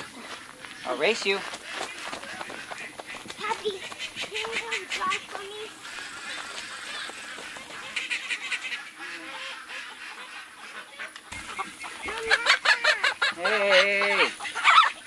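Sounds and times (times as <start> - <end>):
chickens clucking and squawking: 0.0 - 15.0.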